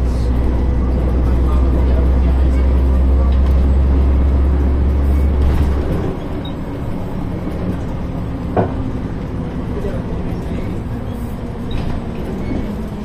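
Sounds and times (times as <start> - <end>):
bus engine drone: 0.0 - 13.0
bus running noise: 0.0 - 13.0.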